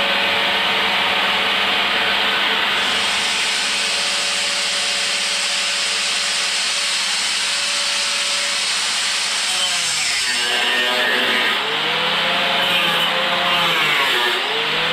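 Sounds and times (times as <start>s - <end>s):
power tool cutting fiberglass: 0.0s - 14.9s.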